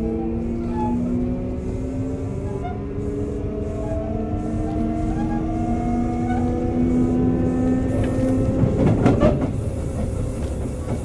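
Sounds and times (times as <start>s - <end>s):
electric train motors whining: 0.0s - 11.0s
wheels rumbling on rail: 0.0s - 11.0s.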